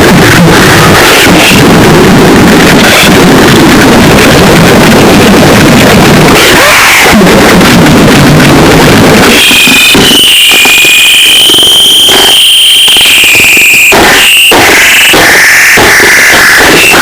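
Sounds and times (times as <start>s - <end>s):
harsh distorted noise music: 0.0s - 17.0s
shrill high whine: 0.0s - 17.0s.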